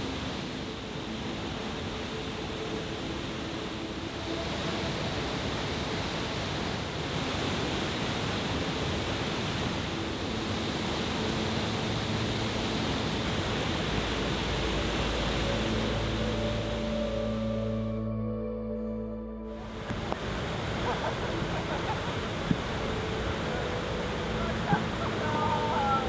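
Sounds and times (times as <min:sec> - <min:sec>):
waterfall roaring: 0:00.0 - 0:17.6, 0:19.6 - 0:26.0.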